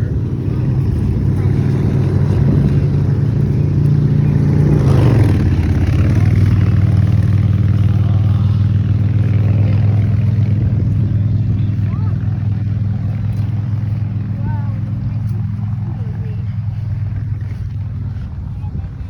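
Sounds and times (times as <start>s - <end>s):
loud low engine drone: 0.0s - 19.0s.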